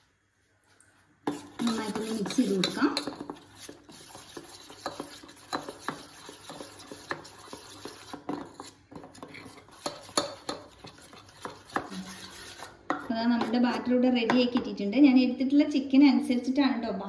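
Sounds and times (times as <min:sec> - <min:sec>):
spoon stirring batter in metal bowl: 0:01.0 - 0:14.8.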